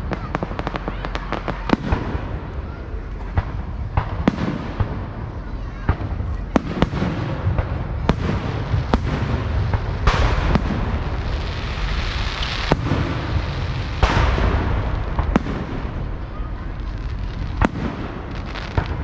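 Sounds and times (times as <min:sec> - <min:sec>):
firework crackling bursts: 0:00.0 - 0:19.0
fireworks bangs: 0:00.0 - 0:19.0.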